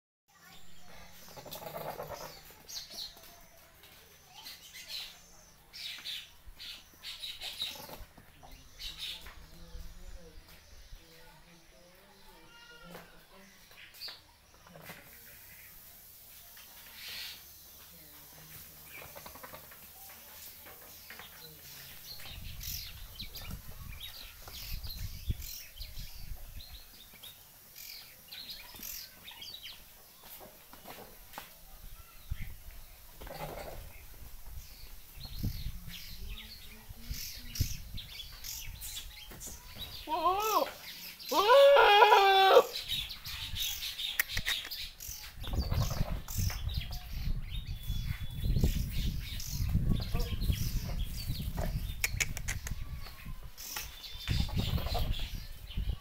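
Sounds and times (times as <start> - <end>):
small birds chirping: 0.3 - 56.0.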